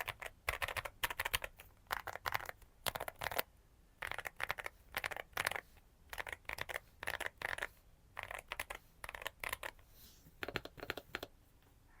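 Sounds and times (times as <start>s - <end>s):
mechanical keyboard typing: 0.0s - 9.8s, 10.4s - 11.3s.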